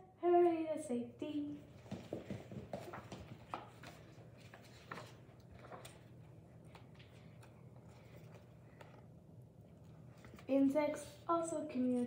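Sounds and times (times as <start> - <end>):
low steady room hum: 0.0 - 12.0.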